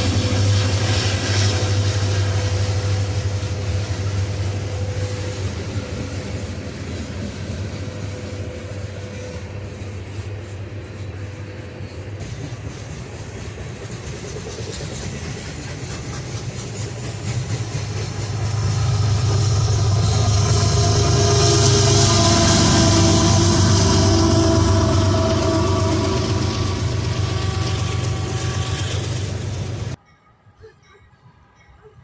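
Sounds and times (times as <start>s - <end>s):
locomotive engine rumbling: 0.0s - 30.0s.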